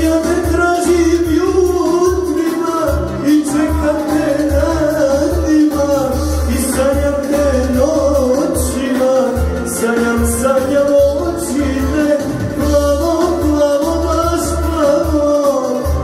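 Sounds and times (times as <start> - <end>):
backing music: 0.0 - 16.0
man singing into a microphone: 0.0 - 16.0
pulsing bass: 0.0 - 16.0.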